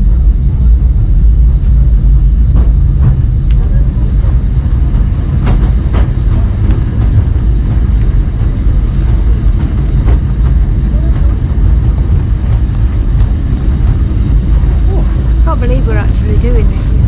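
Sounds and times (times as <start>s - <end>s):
tram rumbling on rails: 0.0s - 17.0s
track clicks and knocks: 1.7s - 17.0s.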